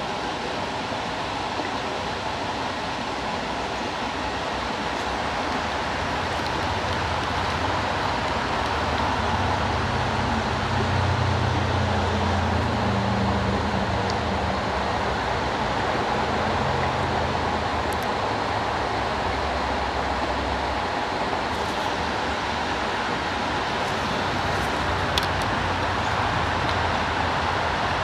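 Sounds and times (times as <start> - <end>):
low engine hum: 0.0 - 28.0
rushing creek water: 0.0 - 28.0.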